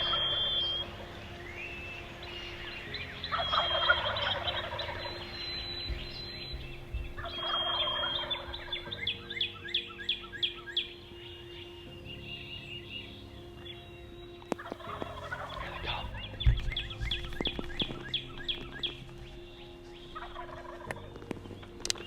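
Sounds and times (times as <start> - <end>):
turkeys gobbling: 0.0 - 10.8, 14.5 - 22.0.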